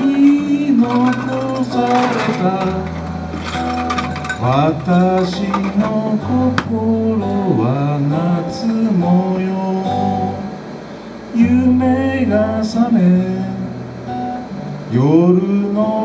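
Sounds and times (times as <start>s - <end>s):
man singing: 0.0s - 3.4s, 4.3s - 10.5s, 11.3s - 13.9s, 14.9s - 16.0s
acoustic guitar: 0.0s - 16.0s.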